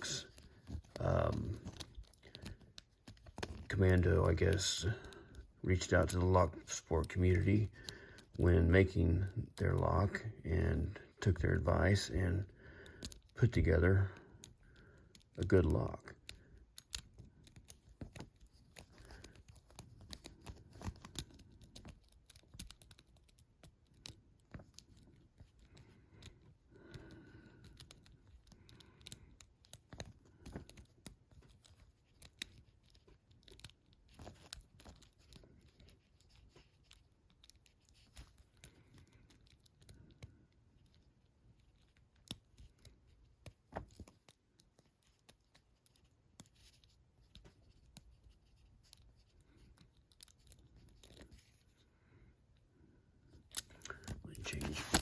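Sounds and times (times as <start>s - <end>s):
lock pick clicking and scratching: 0.0s - 10.4s, 11.2s - 51.8s, 53.3s - 55.0s.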